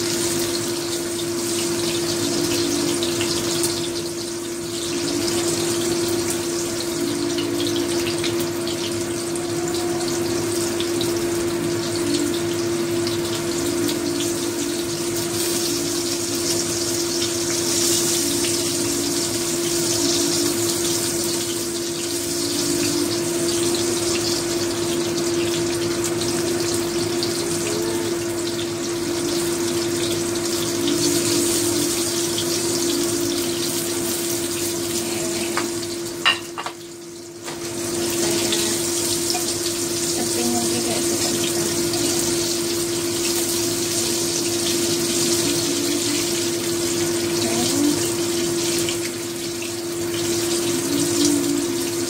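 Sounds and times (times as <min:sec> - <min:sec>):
patties sizzling in oil: 0:00.0 - 0:52.0.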